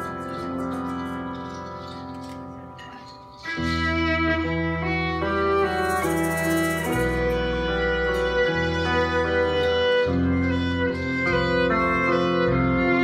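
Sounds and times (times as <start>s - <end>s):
live band with electric guitar: 0.0s - 13.0s.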